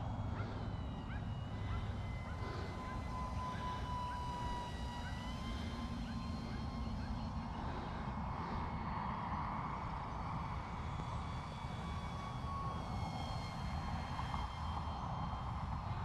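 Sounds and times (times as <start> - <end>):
electric motor and propeller whining: 0.0 - 16.0.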